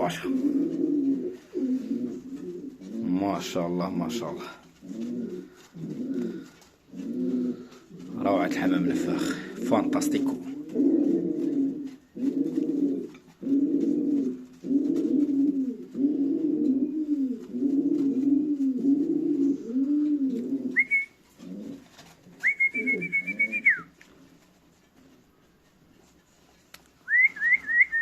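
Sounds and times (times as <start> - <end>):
pigeon cooing: 0.0 - 24.0, 27.1 - 28.0.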